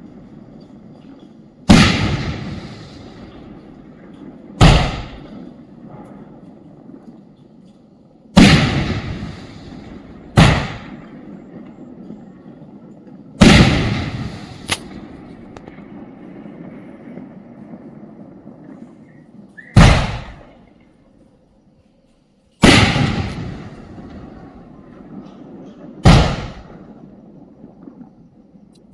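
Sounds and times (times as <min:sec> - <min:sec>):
firework bangs echoing: 0:00.0 - 0:21.0, 0:22.6 - 0:28.0
small firework crack: 0:00.6 - 0:21.4, 0:22.5 - 0:28.9.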